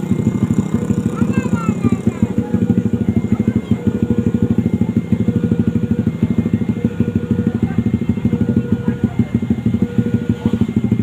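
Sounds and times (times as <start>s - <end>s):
engine running with rapid throb: 0.0s - 11.0s.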